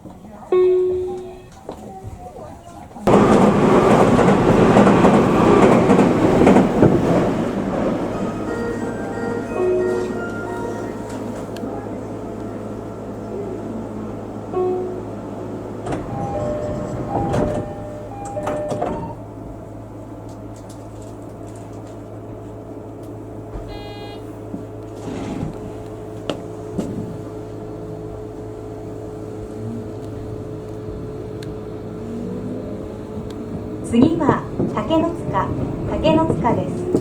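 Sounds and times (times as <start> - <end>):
train low hum: 0.0 - 37.0.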